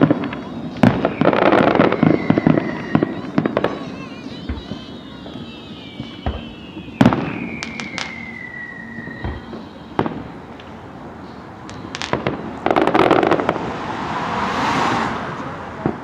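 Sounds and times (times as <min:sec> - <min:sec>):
firework falling whistle: 0:00.0 - 0:13.6
firework crackling: 0:00.0 - 0:14.8
firework bangs: 0:00.0 - 0:16.0.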